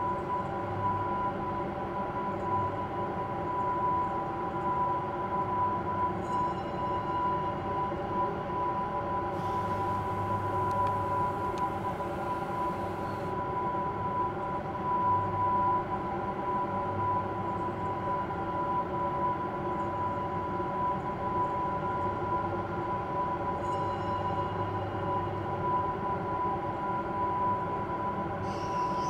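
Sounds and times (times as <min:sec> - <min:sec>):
steady drone of held tones: 0:00.0 - 0:29.0.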